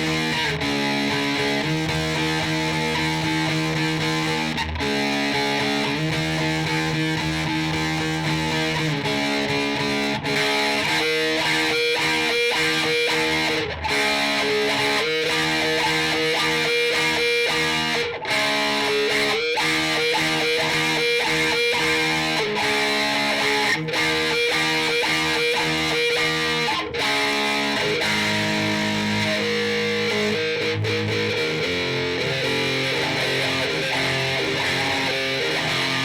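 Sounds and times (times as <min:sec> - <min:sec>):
electric guitar riff: 0:00.0 - 0:36.0.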